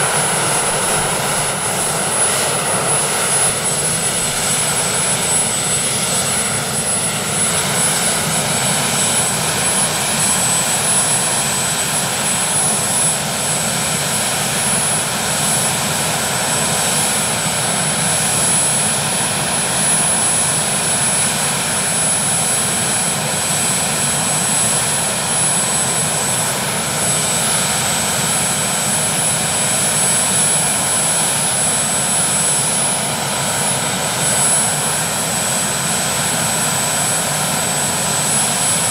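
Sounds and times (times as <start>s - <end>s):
helicopter engine whine: 0.0s - 38.9s
helicopter rotor rushing: 0.0s - 38.9s.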